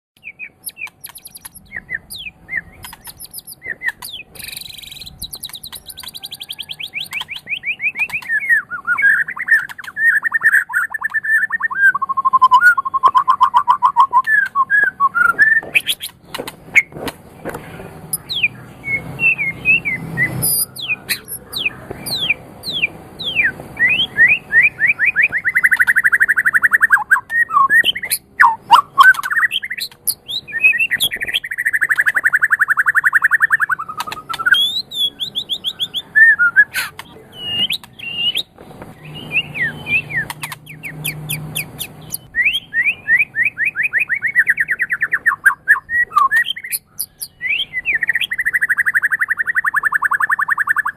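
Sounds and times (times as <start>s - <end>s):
sharp bird clicks: 0.2s - 16.9s, 24.8s - 36.1s, 36.7s - 42.6s, 43.6s - 50.9s
songbird singing: 0.2s - 50.9s.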